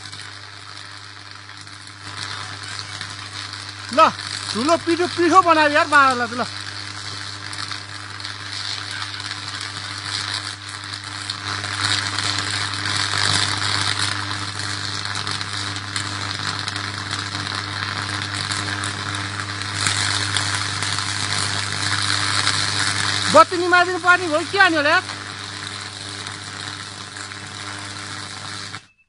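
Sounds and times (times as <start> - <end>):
power line crackling and sizzling: 0.0 - 28.9
low electrical buzz: 0.0 - 29.0.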